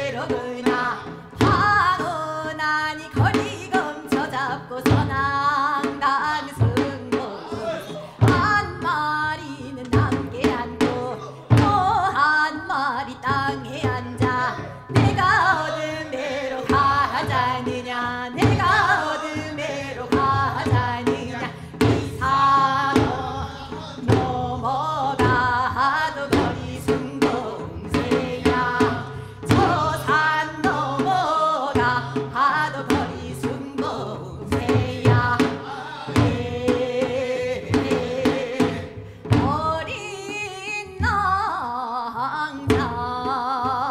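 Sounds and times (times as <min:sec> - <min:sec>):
small hand drum strokes: 0:00.0 - 0:41.8
folk singing with vibrato: 0:00.0 - 0:43.9.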